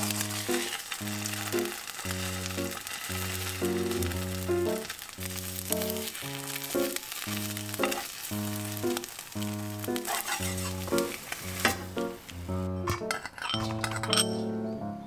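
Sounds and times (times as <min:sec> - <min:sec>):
metal spatula turning egg: 0:00.0 - 0:12.1, 0:12.9 - 0:14.4
egg sizzling in a pan: 0:00.0 - 0:12.4
background music: 0:00.0 - 0:15.0.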